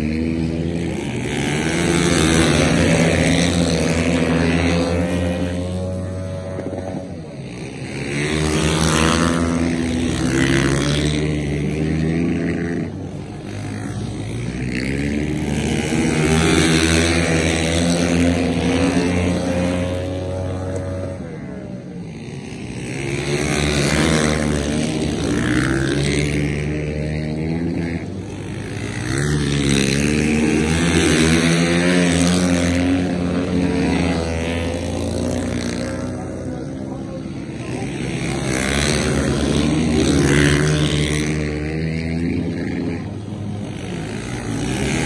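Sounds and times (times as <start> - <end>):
racing motorcycles revving past: 0.0 - 45.0.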